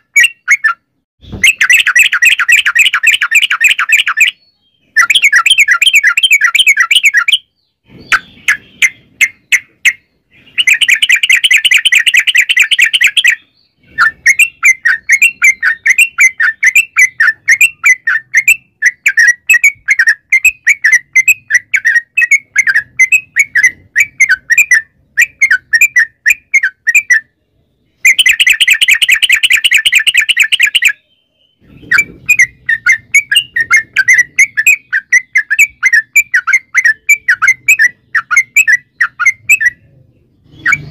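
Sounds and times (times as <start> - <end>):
bird singing chattering trills: 0.0 - 40.9.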